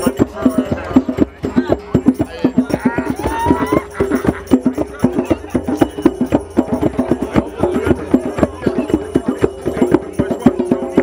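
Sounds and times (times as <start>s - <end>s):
drums beaten in fast rhythm: 0.0s - 11.0s.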